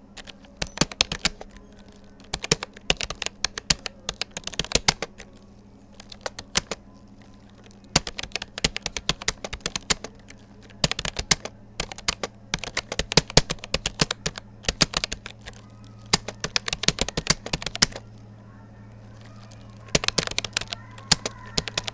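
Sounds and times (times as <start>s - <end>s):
computer keyboard typing clicks: 0.0s - 18.3s, 19.0s - 21.9s.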